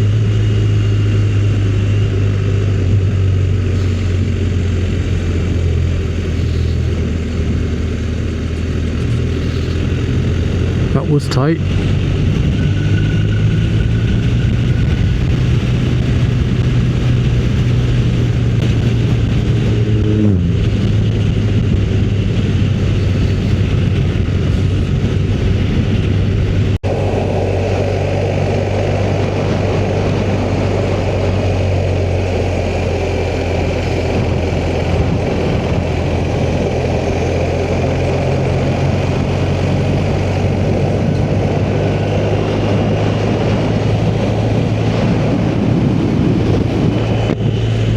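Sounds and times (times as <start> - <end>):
motorcycle engine running: 0.0 - 47.9
wind noise on microphone: 0.0 - 47.9.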